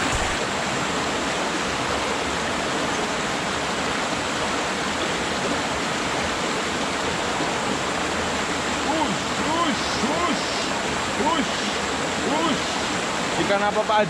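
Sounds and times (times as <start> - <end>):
stream rushing over boulders: 0.0 - 14.0.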